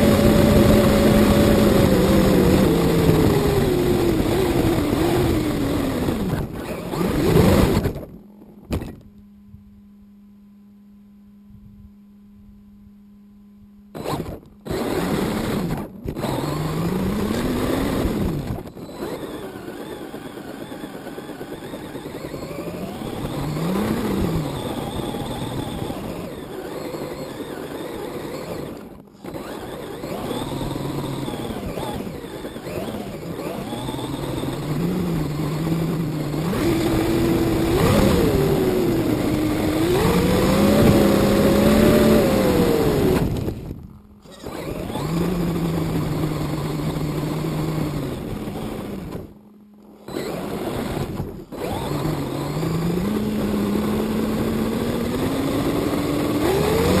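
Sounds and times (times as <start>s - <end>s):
toy car motor whining: 0.0s - 8.2s, 14.0s - 57.0s.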